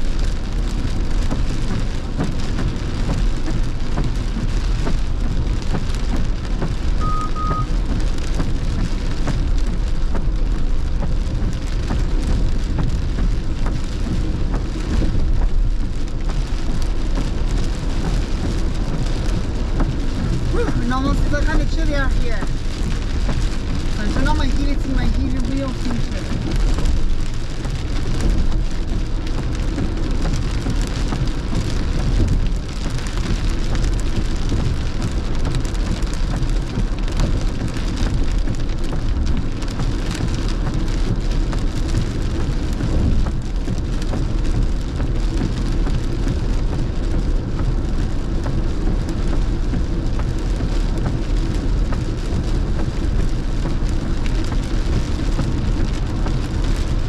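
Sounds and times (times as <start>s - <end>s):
heavy rain on car: 0.0s - 57.0s
tyre noise on wet road: 0.0s - 57.0s.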